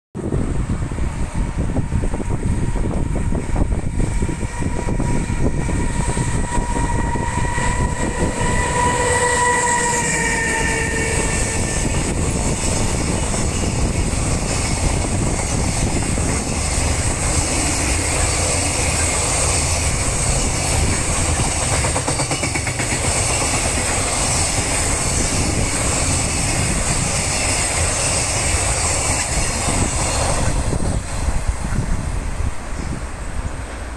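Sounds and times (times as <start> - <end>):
freight wagons rumbling over rails: 0.2 - 33.9
electric locomotive tone: 0.3 - 33.9.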